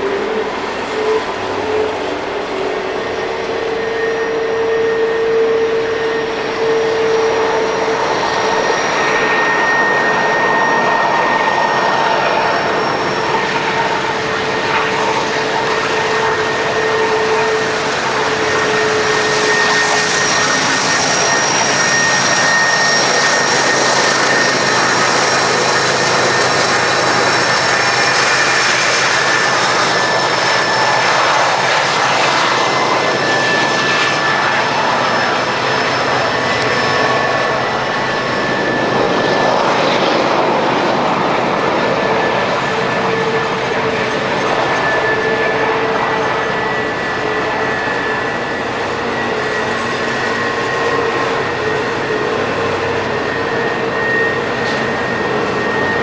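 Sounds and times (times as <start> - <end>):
high wheel squeals: 0.0 - 56.0
train rail noise: 0.0 - 56.0.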